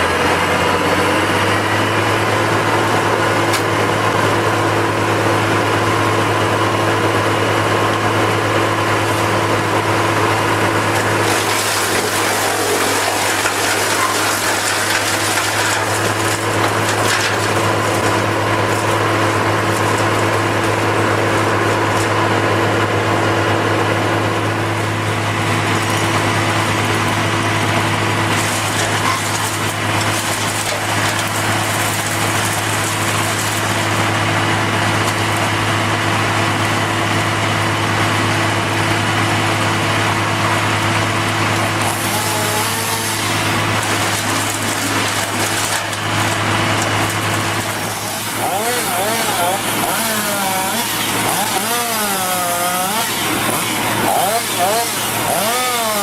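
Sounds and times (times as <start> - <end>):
heavy machinery engine hum: 0.0 - 56.0.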